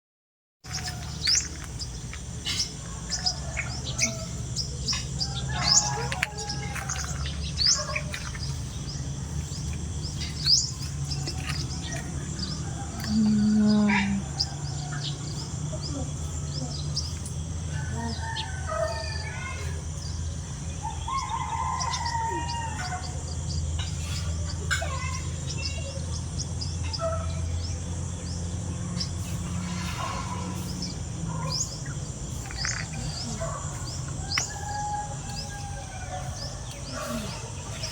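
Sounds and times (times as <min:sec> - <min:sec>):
birds chirping and calling: 0:00.7 - 0:37.9
low warbling bird calls: 0:00.7 - 0:37.9
steady low hum: 0:00.7 - 0:37.9.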